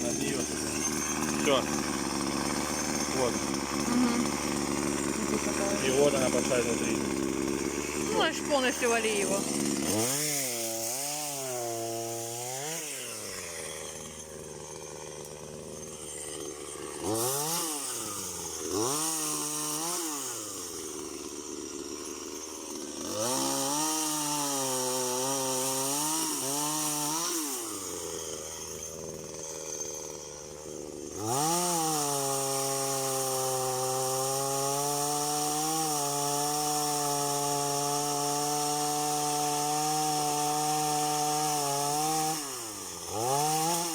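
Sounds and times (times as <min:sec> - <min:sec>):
chainsaw revving and cutting: 0:00.0 - 0:43.9.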